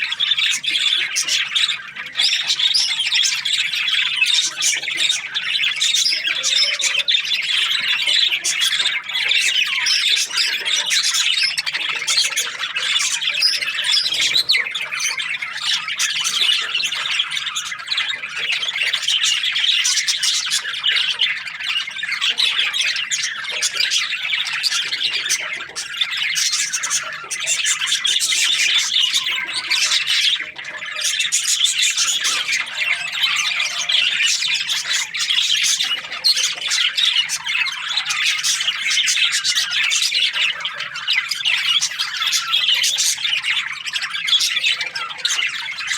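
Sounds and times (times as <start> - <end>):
budgerigars chirping and squawking: 0.0 - 45.9.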